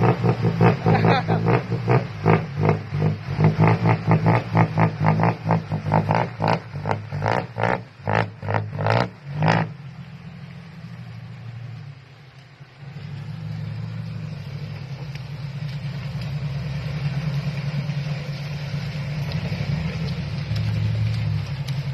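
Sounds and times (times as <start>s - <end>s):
engine humming: 0.0s - 21.9s.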